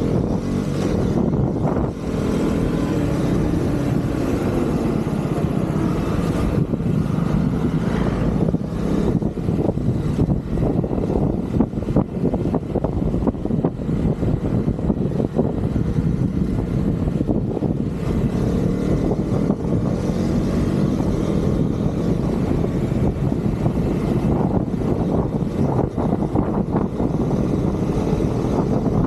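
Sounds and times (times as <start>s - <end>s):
motorcycle engine rumble: 0.0s - 29.0s
wind rush: 0.0s - 29.0s.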